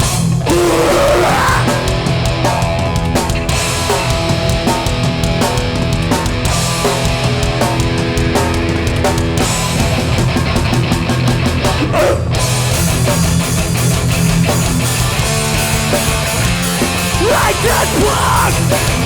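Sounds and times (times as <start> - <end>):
punk band playing live: 0.0 - 19.0.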